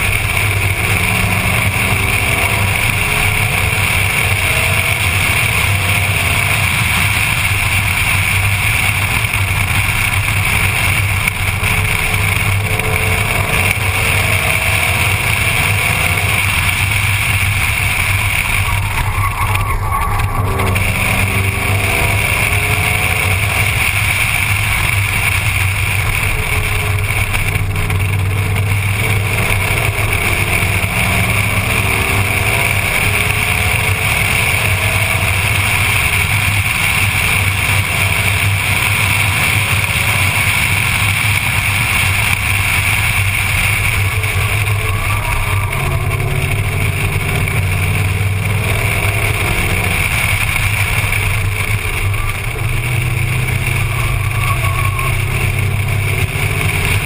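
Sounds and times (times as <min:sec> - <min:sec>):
car engine: 0:00.0 - 0:57.0
wind and road noise: 0:00.0 - 0:57.0.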